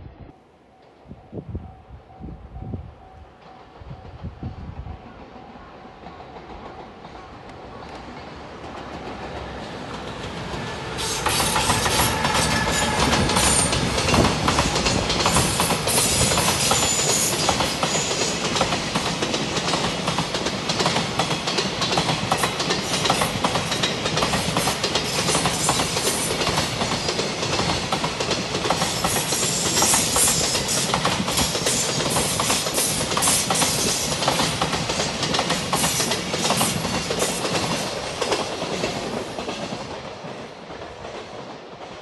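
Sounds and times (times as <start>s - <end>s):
train wheels clattering over rails: 5.9s - 42.0s.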